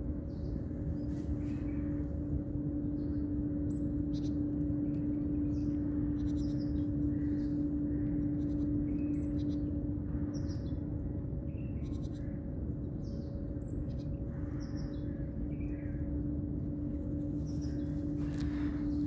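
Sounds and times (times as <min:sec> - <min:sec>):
rumbling background: 0:00.0 - 0:19.0
steady low hum: 0:00.0 - 0:19.0.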